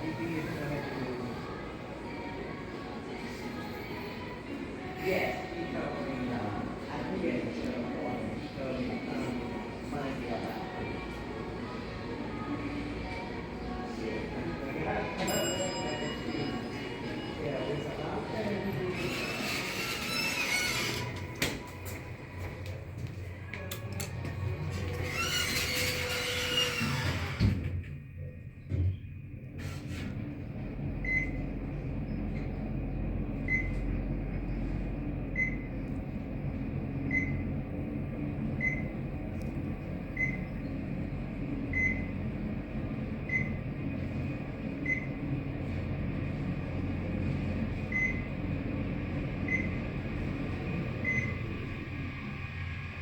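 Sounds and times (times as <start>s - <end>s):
elevator hum and rumble: 0.0s - 53.0s.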